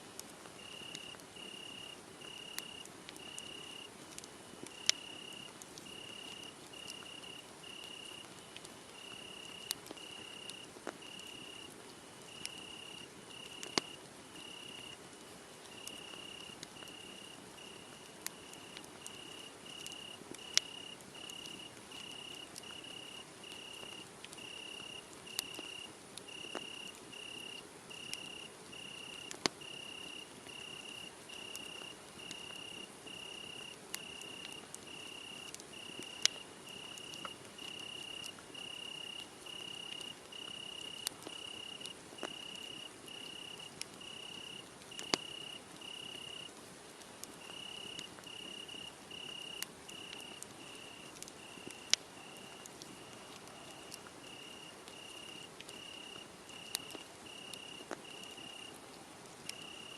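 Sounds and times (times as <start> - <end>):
wood fire crackling: 0.1 - 59.9
crickets chirping: 0.6 - 3.9, 4.7 - 11.7, 12.3 - 15.0, 15.7 - 46.5, 47.4 - 58.8, 59.5 - 59.9.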